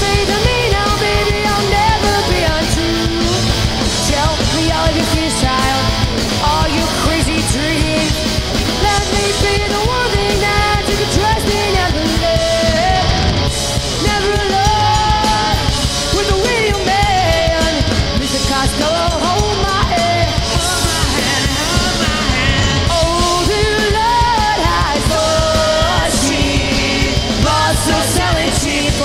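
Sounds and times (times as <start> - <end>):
fast driving drums: 0.0 - 29.0
person singing: 0.0 - 29.0
punk rock song: 0.0 - 29.0.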